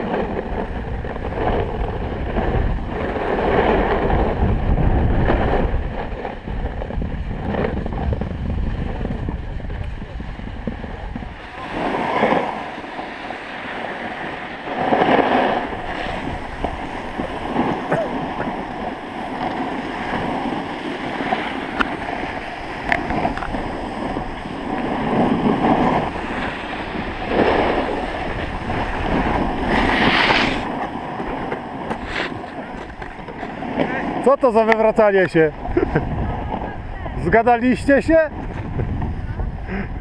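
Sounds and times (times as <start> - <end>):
snowboard scraping over snow: 0.0 - 40.0
wind on microphone: 0.0 - 40.0.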